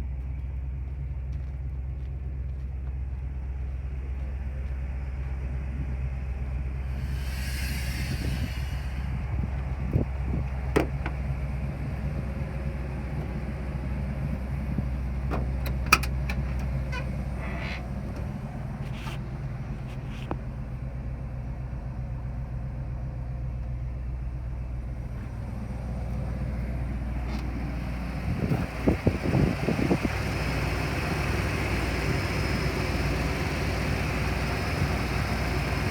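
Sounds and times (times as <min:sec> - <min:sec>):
dump truck engine idling: 0:00.0 - 0:35.9.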